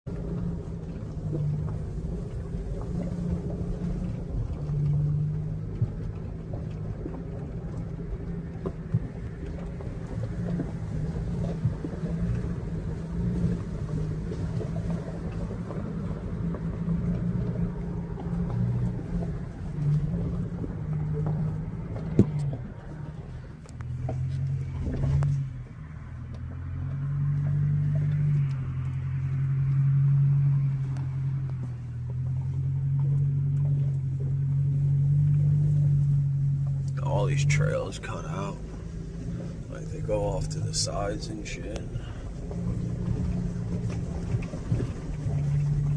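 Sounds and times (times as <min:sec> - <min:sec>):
car engine hum: 0:00.0 - 0:45.9.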